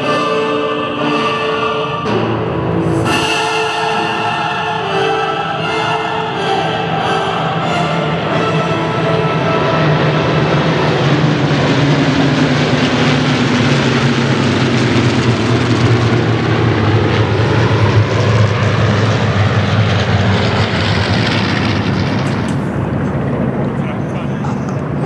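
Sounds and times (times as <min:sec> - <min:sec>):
propeller aircraft engines droning: 0:00.0 - 0:25.0.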